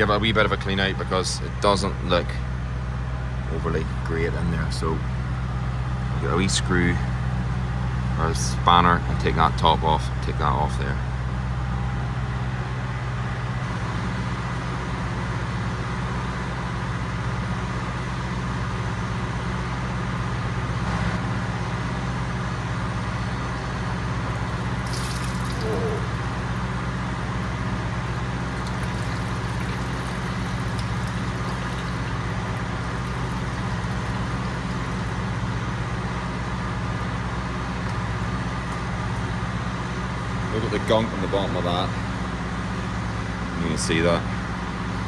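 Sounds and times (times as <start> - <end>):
engine droning steadily: 0.0 - 45.0.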